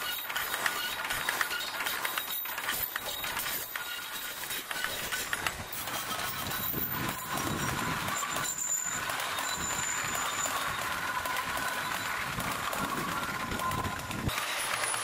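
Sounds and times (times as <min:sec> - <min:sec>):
high-pitched squeal: 0:00.0 - 0:15.0
train wheels clicking over rails: 0:00.0 - 0:15.0.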